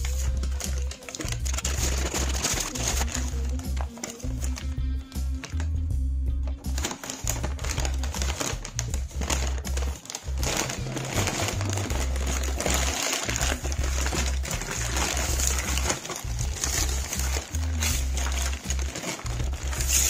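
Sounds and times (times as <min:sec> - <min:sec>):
packing paper crinkling: 0:00.0 - 0:05.7, 0:06.5 - 0:20.0
music with heavy bass line: 0:00.0 - 0:20.0.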